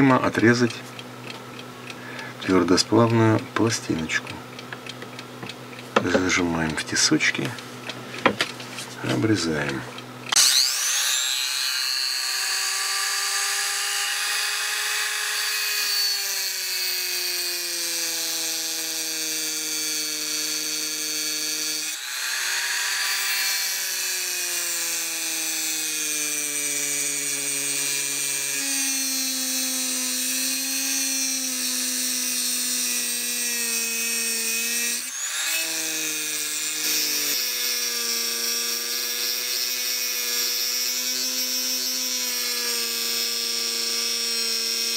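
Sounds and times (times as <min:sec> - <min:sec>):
rotary tool cutting metal whine: 0:00.0 - 0:01.0, 0:09.1 - 0:44.9.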